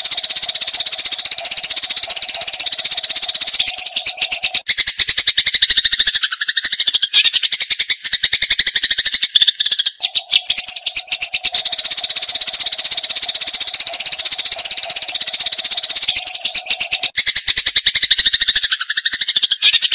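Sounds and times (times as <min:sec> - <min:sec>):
sparrows chattering: 0:00.0 - 0:19.9.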